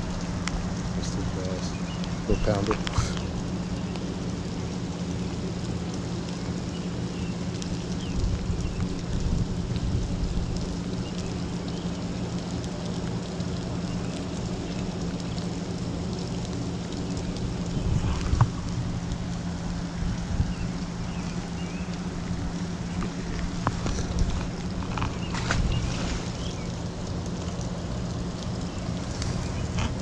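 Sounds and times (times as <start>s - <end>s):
constant low hum: 0.0s - 30.0s
steady rain falling: 0.0s - 30.0s.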